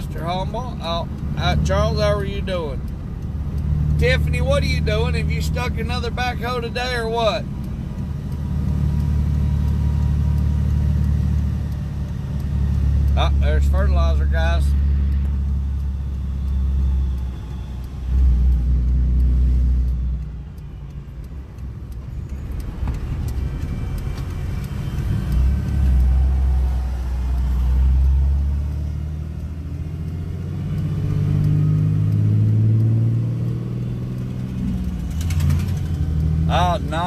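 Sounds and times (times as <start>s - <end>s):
road noise inside vehicle: 0.0s - 37.0s
low engine drone: 0.3s - 37.0s.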